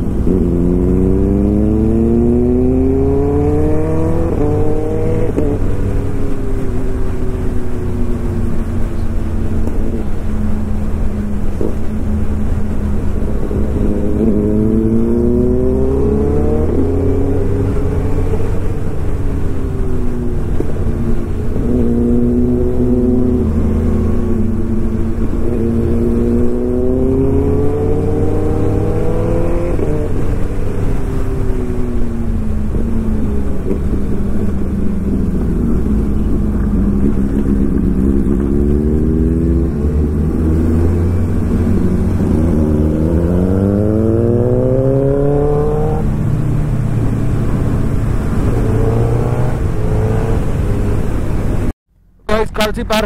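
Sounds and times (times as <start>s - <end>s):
motorcycle engine revving: 0.0s - 51.7s.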